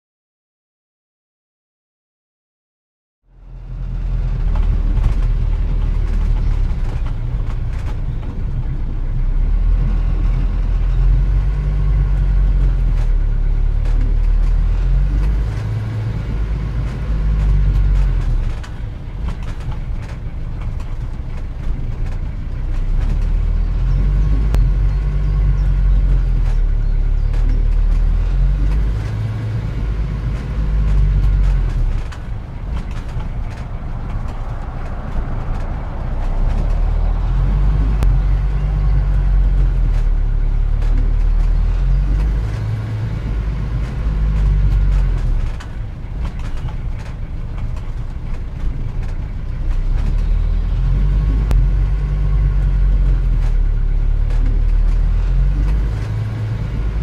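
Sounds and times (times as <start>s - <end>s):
car engine rumbling: 3.2s - 57.0s.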